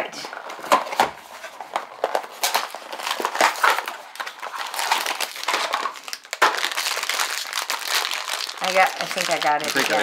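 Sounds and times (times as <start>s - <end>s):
plastic wrappers crinkling: 0.4s - 10.0s.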